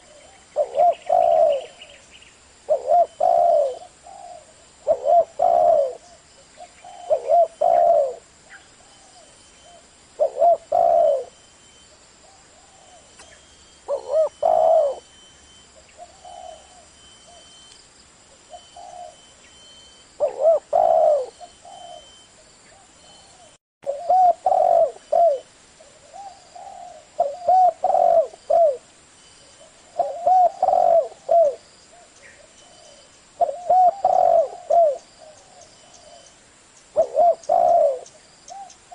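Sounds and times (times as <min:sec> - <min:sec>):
dove cooing: 0:00.0 - 0:02.0, 0:02.7 - 0:11.4, 0:12.2 - 0:17.6, 0:18.5 - 0:19.3, 0:20.2 - 0:38.9.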